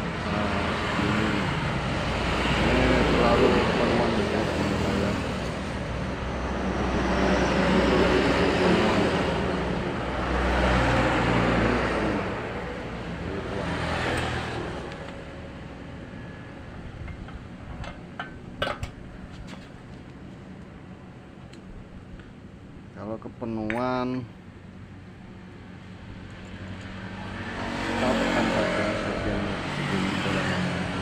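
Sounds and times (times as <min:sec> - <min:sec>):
motor traffic passing: 0:00.0 - 0:23.2, 0:23.9 - 0:31.0.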